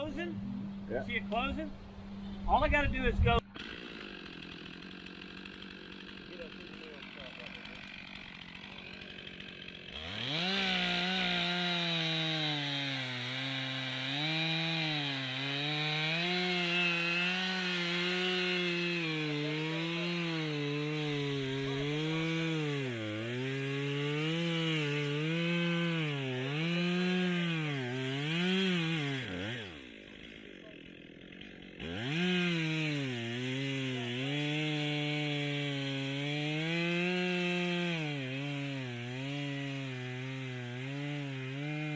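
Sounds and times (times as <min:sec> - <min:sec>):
chainsaw cutting a log: 0:03.4 - 0:41.9.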